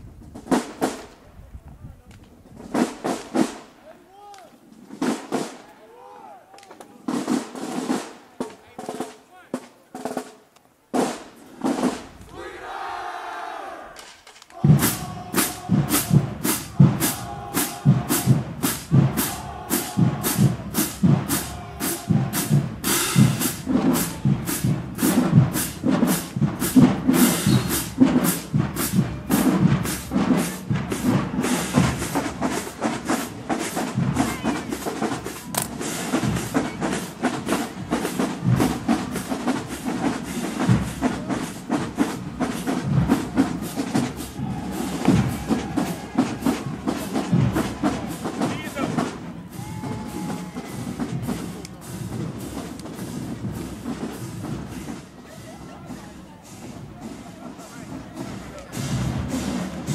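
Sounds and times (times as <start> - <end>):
marching drumline: 0.0 - 1.2, 2.4 - 6.0, 6.6 - 14.0, 14.6 - 59.9.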